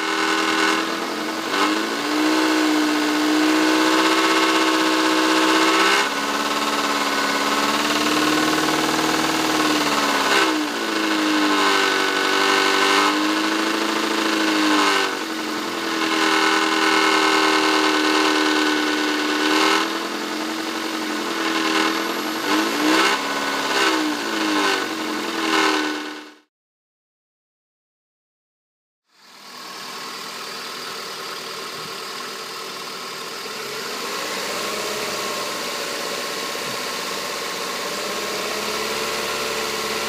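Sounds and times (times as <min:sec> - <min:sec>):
car engine revving: 0:00.0 - 0:26.5, 0:29.2 - 0:40.0.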